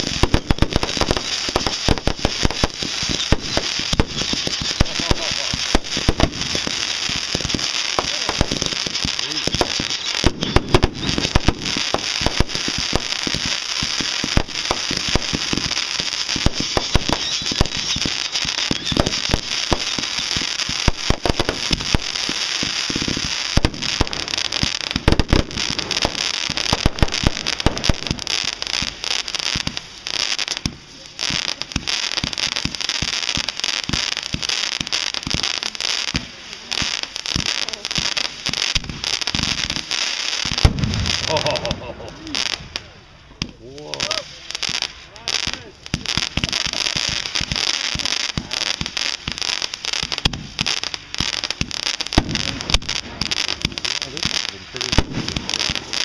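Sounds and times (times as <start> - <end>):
fireworks booming: 0.0 - 56.0
fireworks crackling: 0.0 - 56.0.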